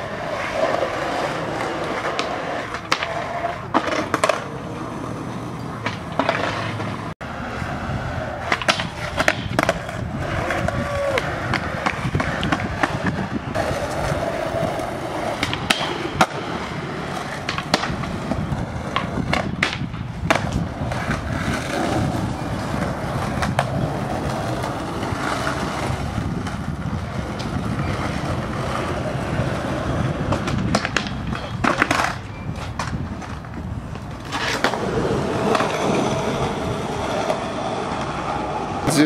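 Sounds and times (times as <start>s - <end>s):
skateboard wheels rolling on pavement: 0.0s - 39.0s
sharp skateboard clacks: 0.4s - 4.9s, 5.6s - 7.0s, 8.4s - 39.0s.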